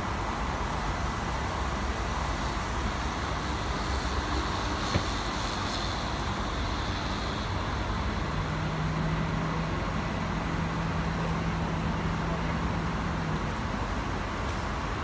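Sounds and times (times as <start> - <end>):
bus road noise: 0.0 - 15.0.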